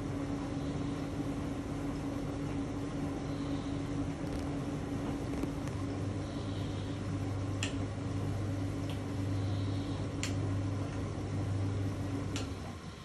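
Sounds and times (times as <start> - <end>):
washing machine tumbling: 0.0 - 9.4, 10.0 - 13.0.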